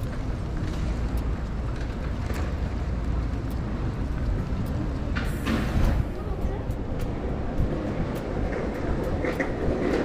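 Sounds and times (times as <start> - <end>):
rickshaw rolling on pavement: 0.0 - 10.0.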